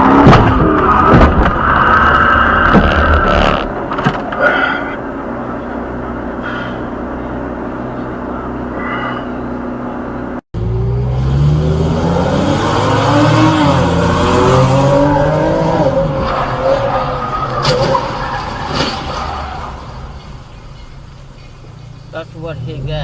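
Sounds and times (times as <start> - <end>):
car driving noise: 0.0 - 23.0
vehicle noise with wavering pitch: 0.0 - 23.0.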